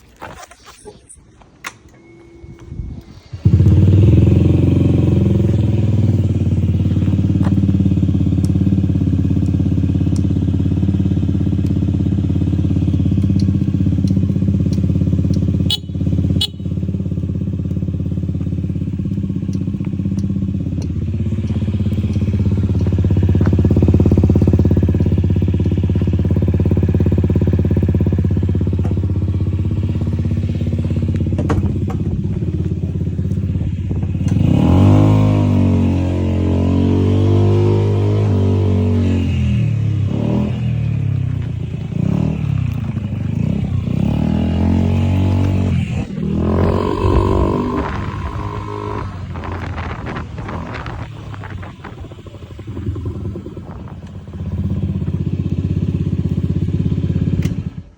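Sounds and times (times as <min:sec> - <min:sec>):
scooter engine starting and idling: 0:00.0 - 0:57.9.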